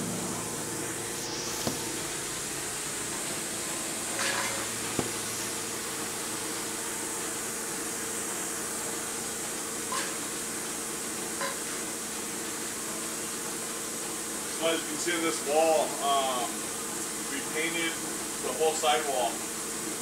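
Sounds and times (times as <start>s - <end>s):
steady hiss: 0.0s - 11.0s, 12.1s - 20.0s
low mechanical hum: 0.0s - 20.0s.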